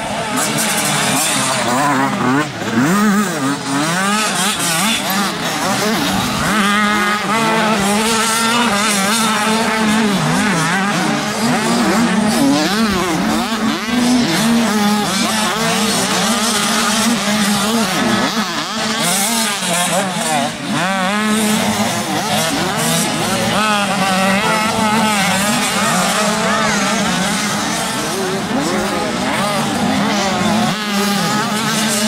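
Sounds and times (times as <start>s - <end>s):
motocross bike engines revving: 0.0s - 32.0s.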